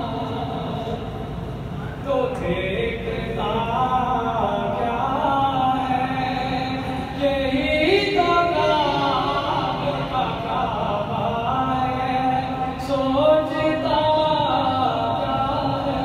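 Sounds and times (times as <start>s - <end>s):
man singing unaccompanied: 0.0s - 1.1s, 1.8s - 16.0s.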